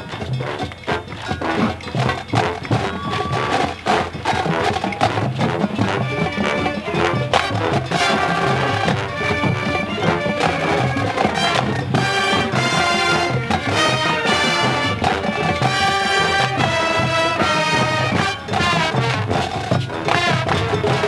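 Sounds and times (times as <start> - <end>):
marching band playing: 0.0 - 21.0
sustained brass chords: 3.7 - 21.0.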